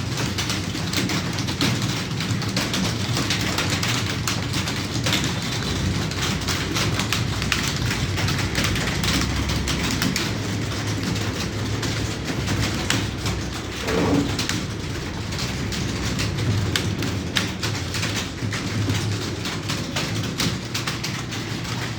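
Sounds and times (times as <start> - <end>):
fast typing on keyboard: 0.0 - 21.9.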